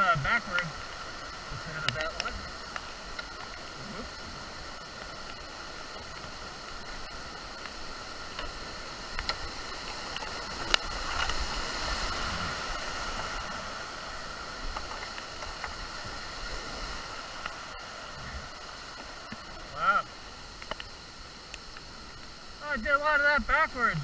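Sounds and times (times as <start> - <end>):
water rushing through rapids: 0.0 - 24.0.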